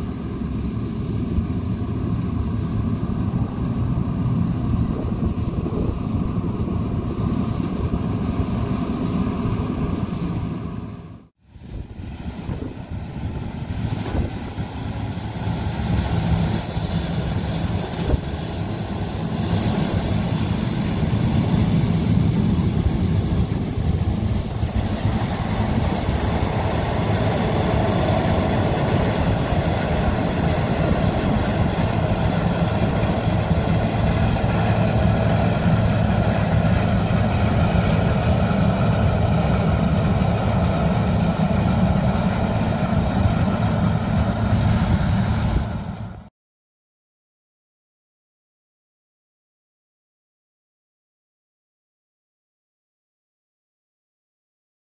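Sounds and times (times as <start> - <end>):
combine harvester drone: 0.0 - 46.3.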